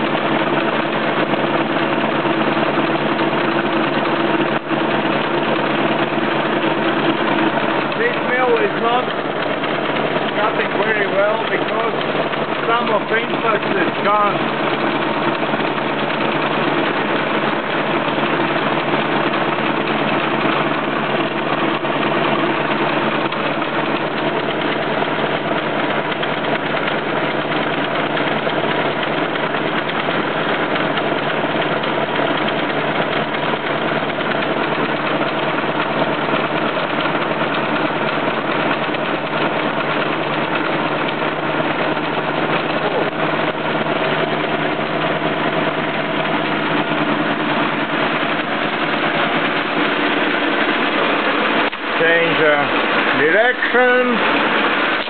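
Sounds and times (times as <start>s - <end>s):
milling machine cutting steel: 0.0s - 55.0s.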